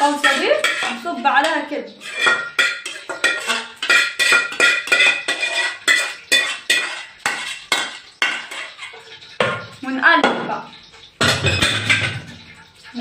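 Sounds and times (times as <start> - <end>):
metal spoon scraping metal pot: 0.0 - 9.9, 11.2 - 12.5.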